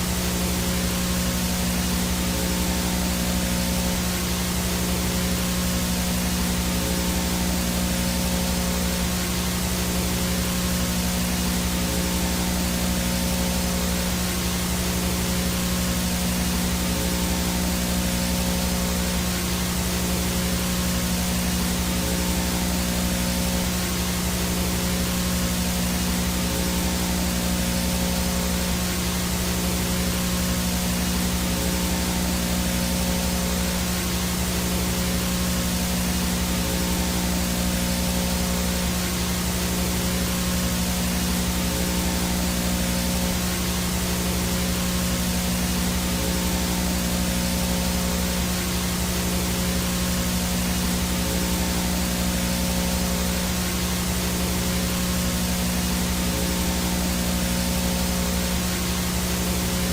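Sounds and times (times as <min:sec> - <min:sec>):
low hum: 0:00.0 - 0:59.9
static hiss: 0:00.0 - 0:59.9.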